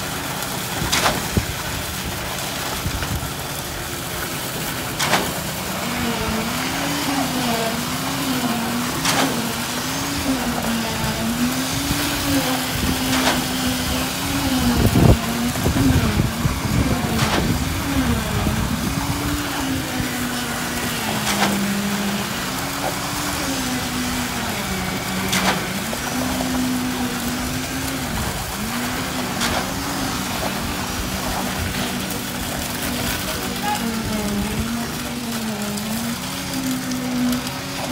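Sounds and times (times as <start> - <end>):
concrete pump engine running: 0.0 - 37.9.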